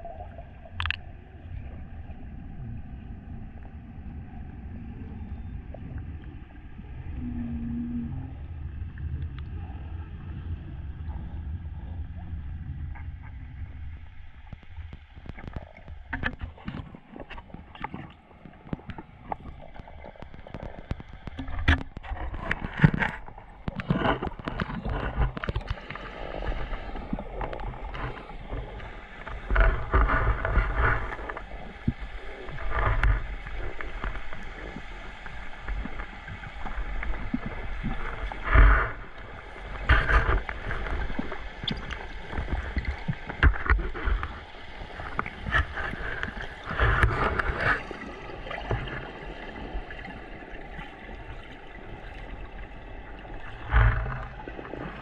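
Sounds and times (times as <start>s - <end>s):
gurgling water: 0.0s - 55.0s
muffled underwater rumble: 0.0s - 55.0s.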